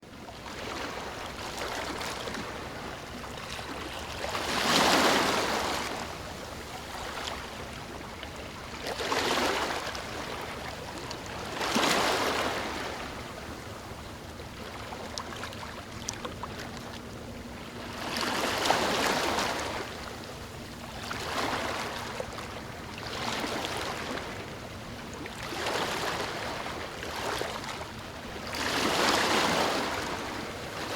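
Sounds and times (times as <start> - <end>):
waves breaking on a beach: 0.1 - 30.9.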